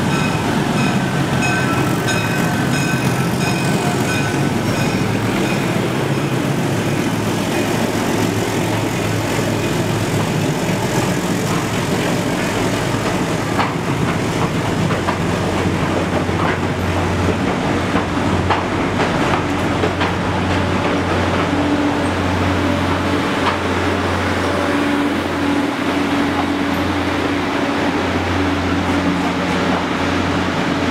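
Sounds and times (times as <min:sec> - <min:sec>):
train carriages rumbling past: 0:00.0 - 0:30.9
train wheels clicking on rails: 0:00.0 - 0:30.9.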